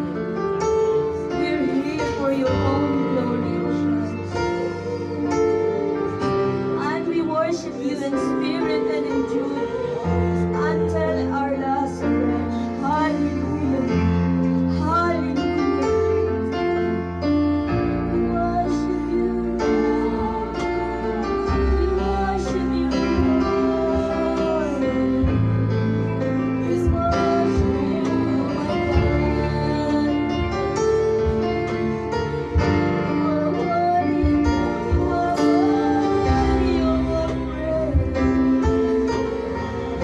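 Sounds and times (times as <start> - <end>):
bass notes: 0.0 - 40.0
keyboard chords: 0.0 - 40.0.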